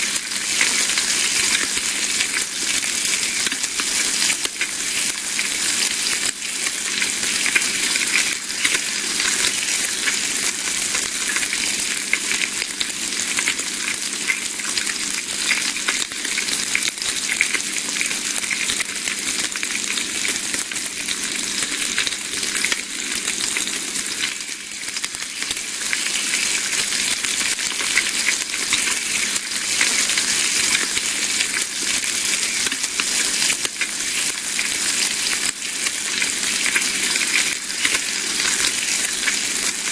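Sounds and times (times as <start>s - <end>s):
bacon sizzling in a pan: 0.0s - 39.9s.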